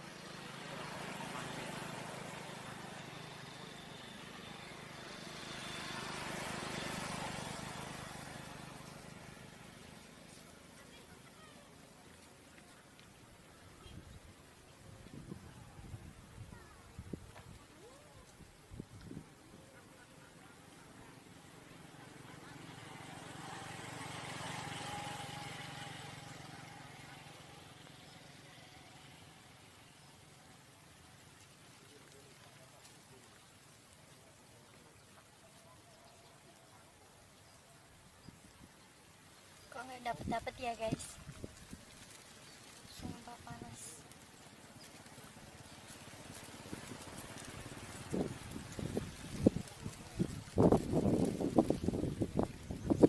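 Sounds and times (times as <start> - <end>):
vehicle passing by: 0.0 - 53.0.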